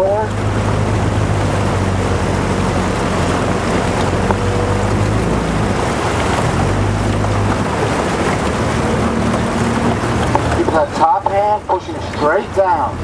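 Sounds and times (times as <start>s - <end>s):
water noise around boat: 0.0s - 13.0s.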